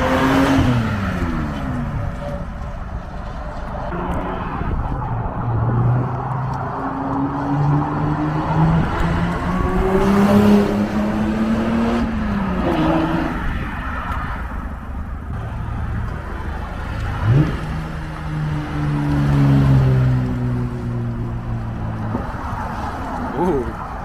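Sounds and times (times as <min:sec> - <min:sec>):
car engine revving: 0:00.0 - 0:13.7, 0:14.3 - 0:23.8.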